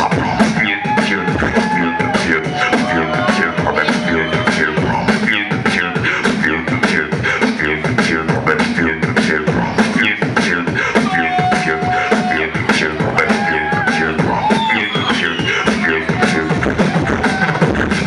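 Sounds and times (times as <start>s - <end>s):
amplified beatboxing: 0.0s - 18.0s.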